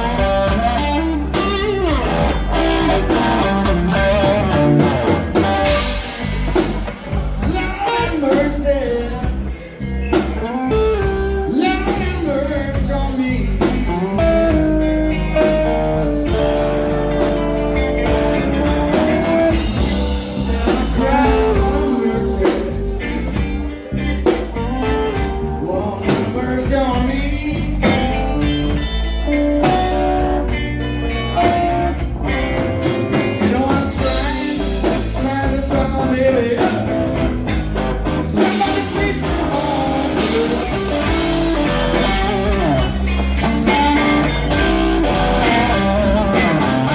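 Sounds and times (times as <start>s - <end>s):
electric guitar: 0.0s - 46.9s
live blues band: 0.0s - 46.9s
person singing: 2.8s - 28.8s, 32.8s - 46.9s.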